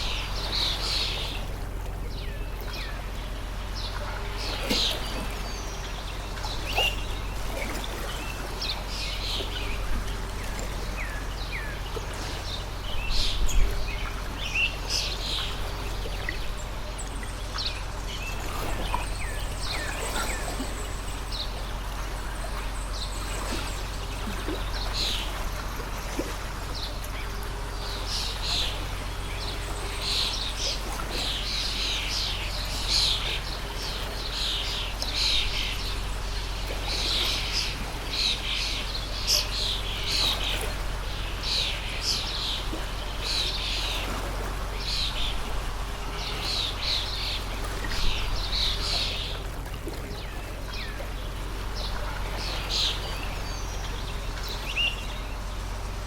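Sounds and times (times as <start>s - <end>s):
small birds chirping: 0.0s - 56.0s
stream flowing: 0.0s - 56.0s.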